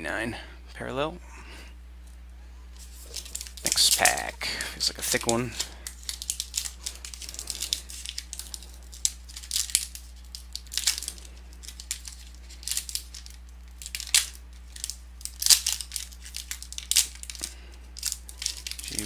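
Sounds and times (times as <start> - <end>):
steady low hum: 0.0 - 19.0
wrapper crinkling and tearing: 2.8 - 19.0.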